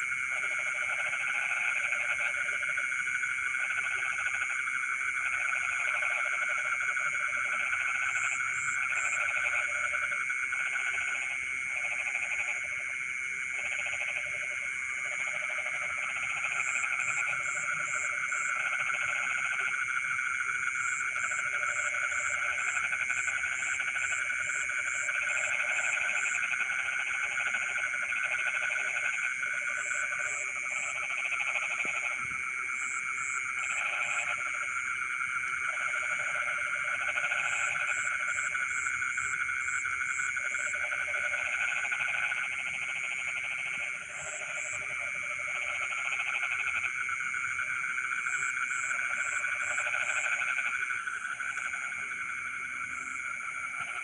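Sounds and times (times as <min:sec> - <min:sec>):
frogs trilling chorus: 0:00.0 - 0:54.0
low frog croaking: 0:00.0 - 0:54.0.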